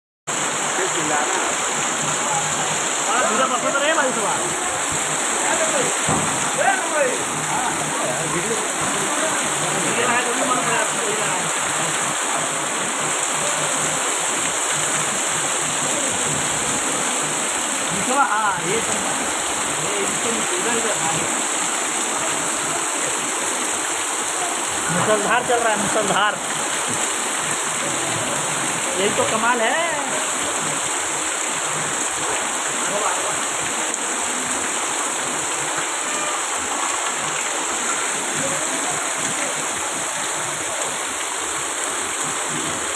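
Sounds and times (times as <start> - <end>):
torrential rain: 0.3 - 42.9.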